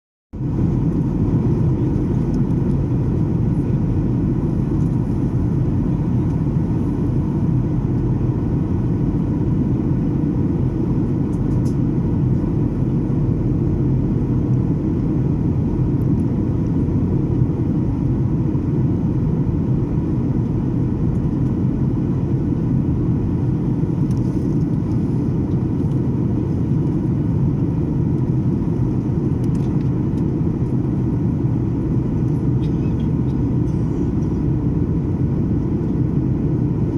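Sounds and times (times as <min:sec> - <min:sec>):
airliner cabin engine rumble: 0:00.4 - 0:36.9.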